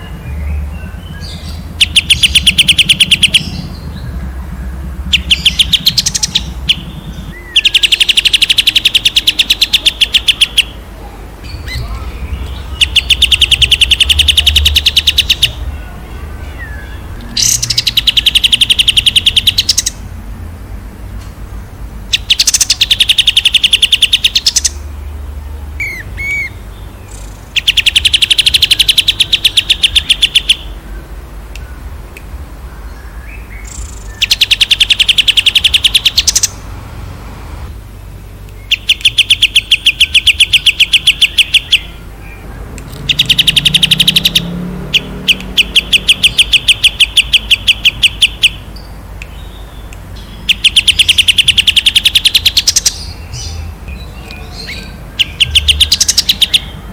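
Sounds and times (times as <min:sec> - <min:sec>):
bird chirps: 0:00.0 - 0:10.8, 0:11.4 - 0:20.0, 0:22.1 - 0:25.2, 0:25.8 - 0:31.9, 0:32.6 - 0:36.6, 0:38.5 - 0:56.9
songbird trilling: 0:00.0 - 0:10.8, 0:11.4 - 0:20.1, 0:22.1 - 0:25.1, 0:25.8 - 0:31.8, 0:32.6 - 0:36.6, 0:38.5 - 0:56.9.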